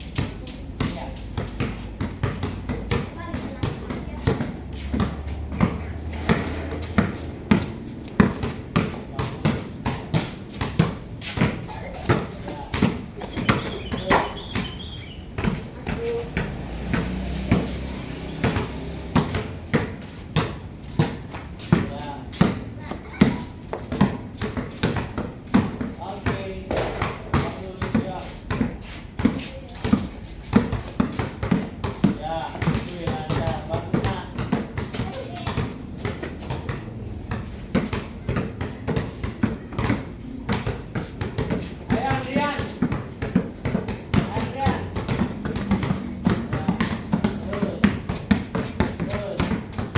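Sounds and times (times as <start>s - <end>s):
basketballs bouncing on hard floor: 0.1s - 49.9s.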